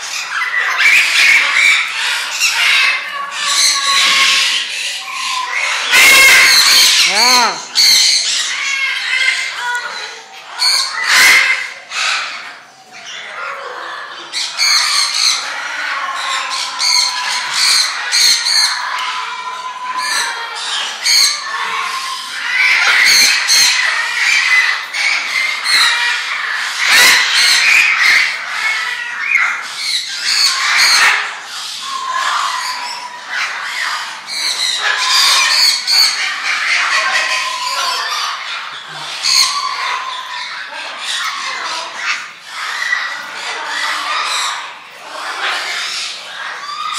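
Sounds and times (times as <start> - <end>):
birds squawking and calling: 0.0 - 46.9.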